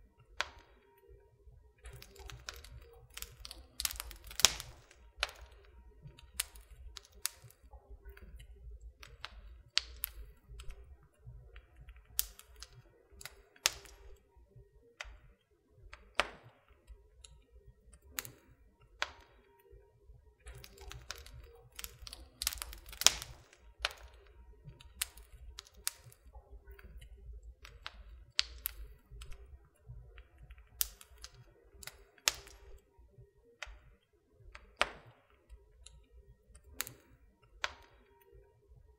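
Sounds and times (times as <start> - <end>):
wood fire crackling: 0.1 - 1.0, 1.6 - 19.6, 20.2 - 33.0, 33.6 - 38.1.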